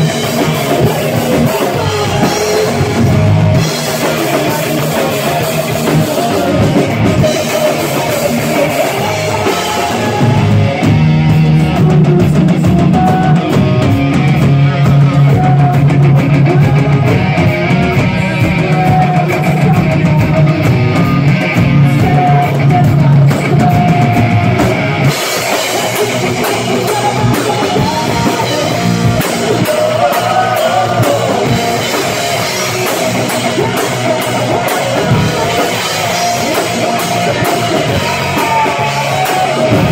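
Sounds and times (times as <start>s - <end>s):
live metal band playing: 0.0s - 39.9s.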